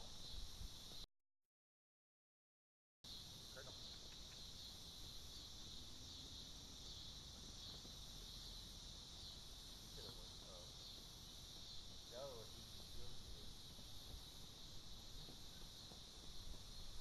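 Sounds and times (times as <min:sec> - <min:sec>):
insect chorus buzzing: 0:00.0 - 0:01.0, 0:03.1 - 0:17.0.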